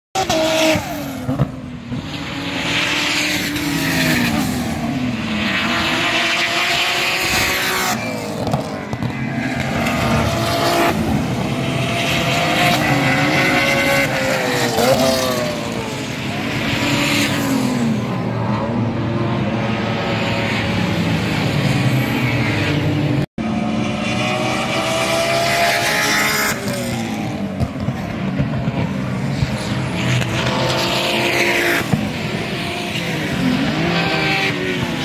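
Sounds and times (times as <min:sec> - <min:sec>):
racing cars passing at speed: 0:00.2 - 0:35.0.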